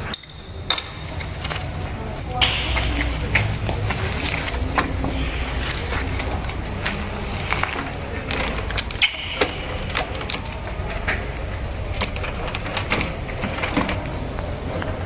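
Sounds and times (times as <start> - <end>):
metal clicks and knocks: 0.0 - 15.0.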